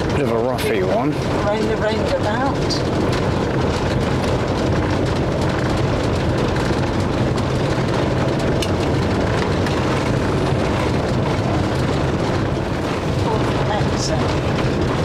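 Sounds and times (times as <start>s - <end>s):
engine rumble: 0.0s - 15.0s
small clicks and rattles: 1.2s - 15.0s
tyres on cobbles: 1.3s - 15.0s.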